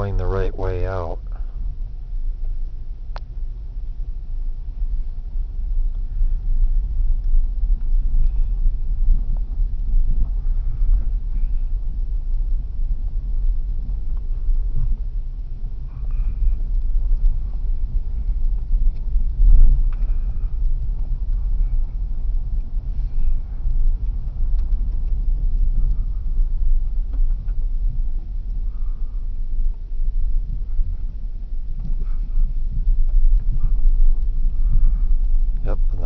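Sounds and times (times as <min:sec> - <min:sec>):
vehicle rumbling on dirt road: 0:00.0 - 0:36.0
vehicle jolt: 0:06.0 - 0:36.0.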